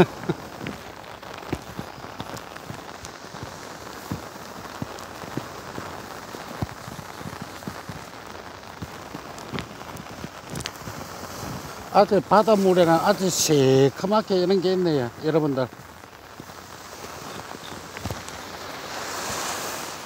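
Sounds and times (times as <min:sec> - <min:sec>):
heavy rain hiss: 0:00.0 - 0:20.0
raindrops tapping: 0:00.0 - 0:20.0.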